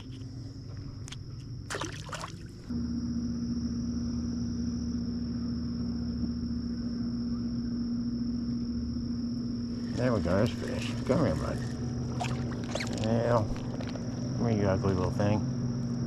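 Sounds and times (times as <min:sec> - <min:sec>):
small boat motor humming: 0:00.0 - 0:16.0.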